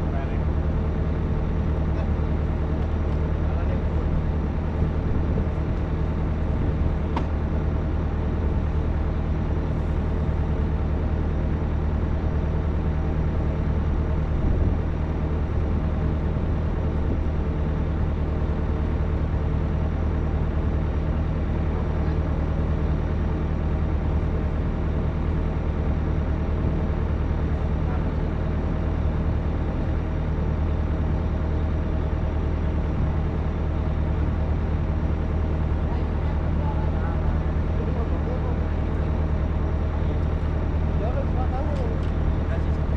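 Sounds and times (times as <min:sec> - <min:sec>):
excavator engine humming: 0:00.0 - 0:42.9.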